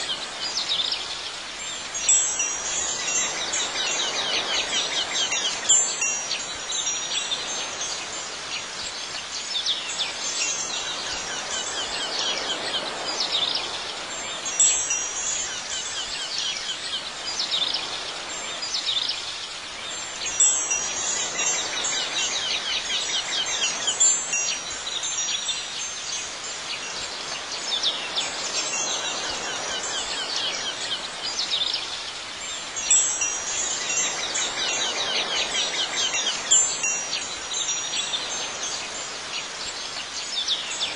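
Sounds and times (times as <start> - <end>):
wind chimes tinkling: 0.0 - 40.9.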